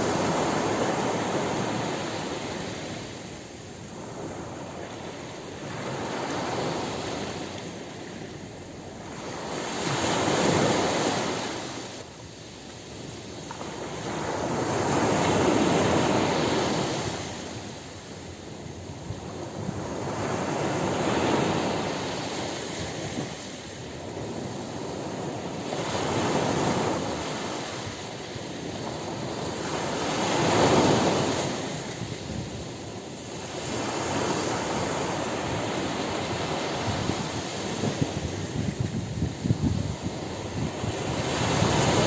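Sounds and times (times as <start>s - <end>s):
ocean waves breaking on beach: 0.0s - 42.0s.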